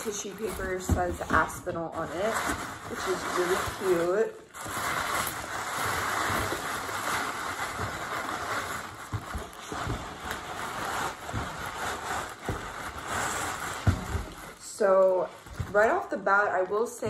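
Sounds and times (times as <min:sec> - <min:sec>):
paper wrapping rustling: 0:00.0 - 0:16.0.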